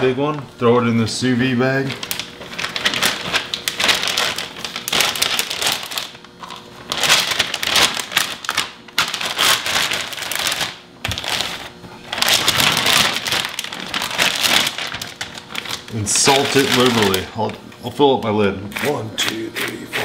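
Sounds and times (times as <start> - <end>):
plastic bag crinkling: 1.4 - 17.6.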